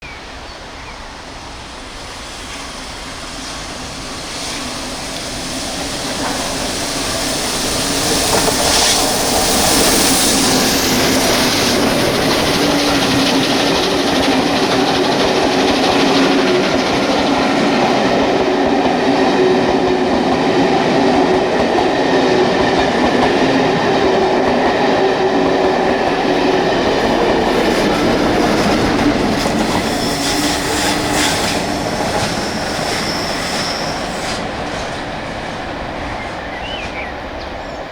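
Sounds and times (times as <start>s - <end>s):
steam train passing: 0.0s - 37.9s
locomotive steam hiss: 0.3s - 37.8s.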